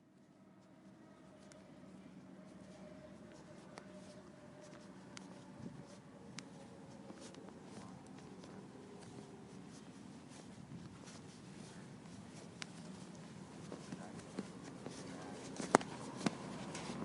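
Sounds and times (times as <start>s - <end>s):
steady low hum: 0.0s - 17.0s
faint footsteps: 0.1s - 17.0s.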